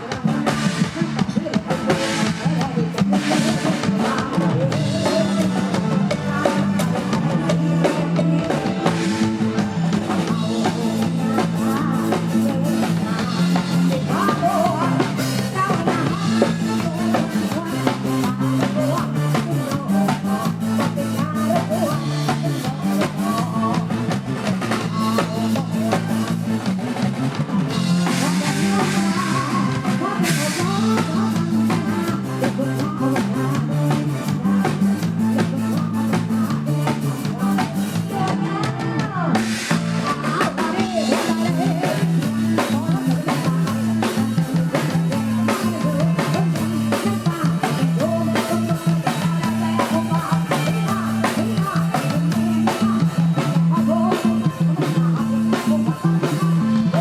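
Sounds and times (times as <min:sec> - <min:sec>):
bass guitar: 0:00.0 - 0:57.0
drum kit beat: 0:00.0 - 0:57.0
live band music: 0:00.0 - 0:57.0.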